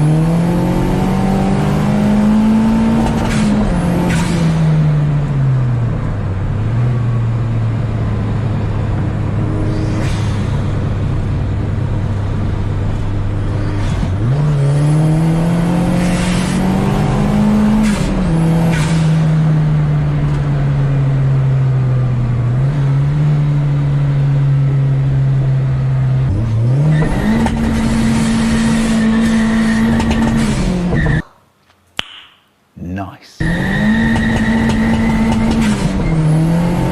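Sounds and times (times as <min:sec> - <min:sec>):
turbocharged car engine accelerating: 0:00.0 - 0:31.2, 0:33.4 - 0:36.9.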